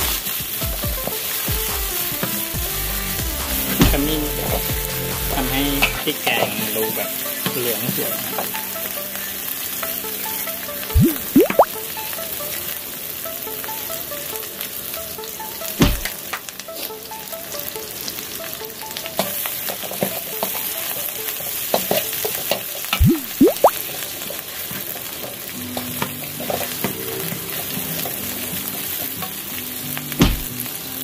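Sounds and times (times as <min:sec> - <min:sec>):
curry paste sizzling in a wok: 0:00.0 - 0:10.9, 0:11.6 - 0:23.0, 0:23.7 - 0:31.0.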